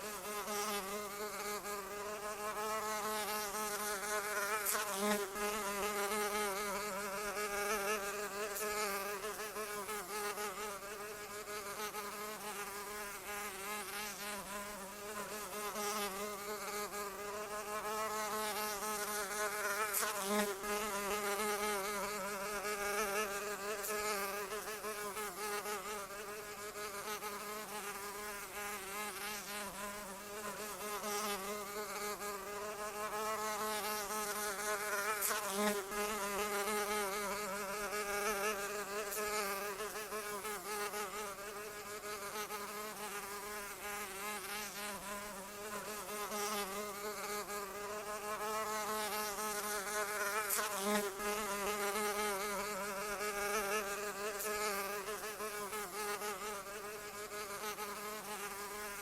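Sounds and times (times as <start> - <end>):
flying insect buzzing: 0.0 - 59.0.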